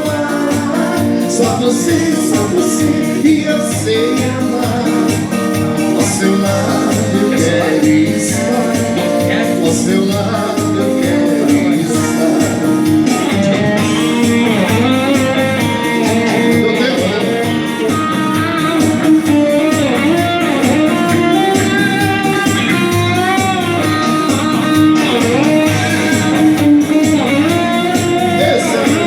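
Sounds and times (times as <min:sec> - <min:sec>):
bass and drums beat: 0:00.0 - 0:29.0
electric guitar melody: 0:00.0 - 0:29.0.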